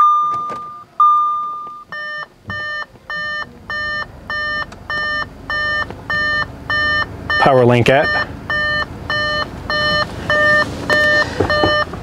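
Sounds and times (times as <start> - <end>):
repeating beep: 0.0 - 11.9
car warning chimes: 0.0 - 12.0.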